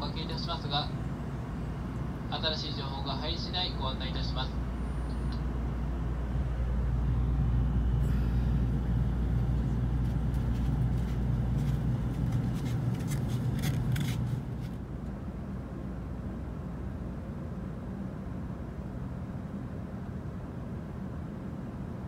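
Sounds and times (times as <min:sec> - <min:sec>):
quiet hum: 0:00.0 - 0:22.0
train car low rumble: 0:00.0 - 0:22.0.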